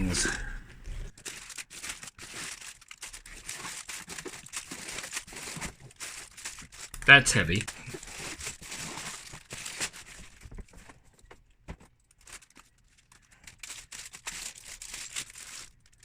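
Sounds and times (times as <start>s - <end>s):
plastic bags crinkling: 0.0s - 16.0s
plastic bricks clicking and rattling: 0.0s - 16.0s.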